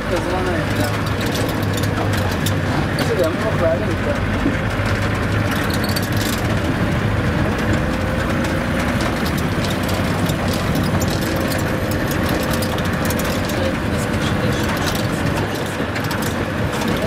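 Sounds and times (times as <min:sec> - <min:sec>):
clicks and rattles in cabin: 0:00.0 - 0:17.0
vehicle engine drone: 0:00.0 - 0:17.0.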